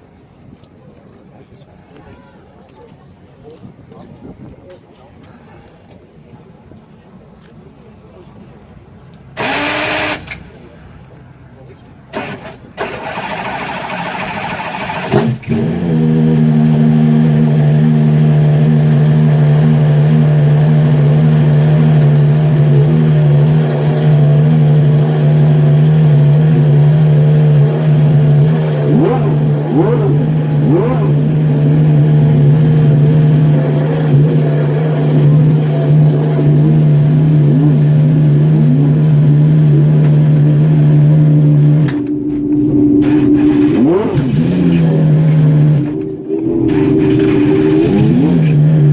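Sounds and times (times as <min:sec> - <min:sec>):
car engine high idle: 0:09.3 - 0:48.9.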